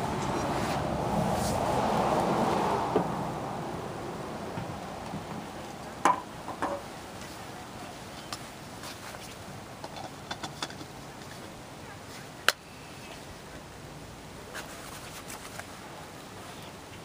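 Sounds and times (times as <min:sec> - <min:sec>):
faint outdoor background noise: 0:00.0 - 0:17.0.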